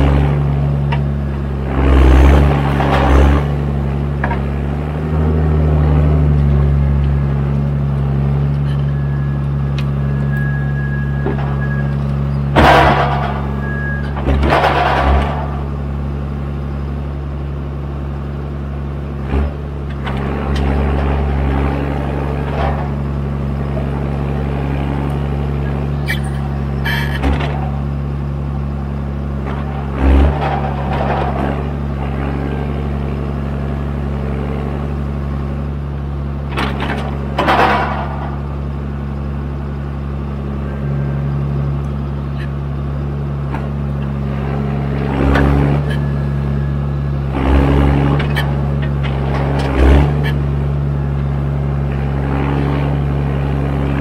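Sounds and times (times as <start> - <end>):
crane knocks and clunks: 0.0 - 16.2, 19.2 - 54.0
diesel engine running: 0.0 - 54.0.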